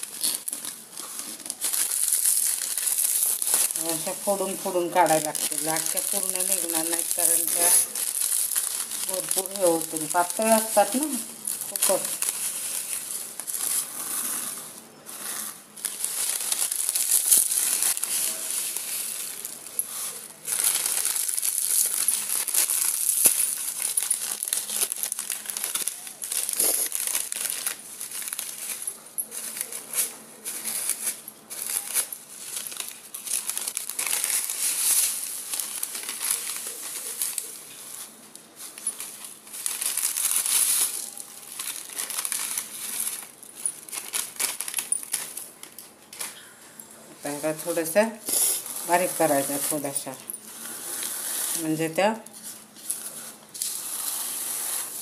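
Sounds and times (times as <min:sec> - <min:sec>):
dry noodles breaking: 0:00.0 - 0:04.4, 0:05.3 - 0:14.5, 0:15.4 - 0:46.5
plastic packet crinkling: 0:00.0 - 0:46.5, 0:47.2 - 0:55.0.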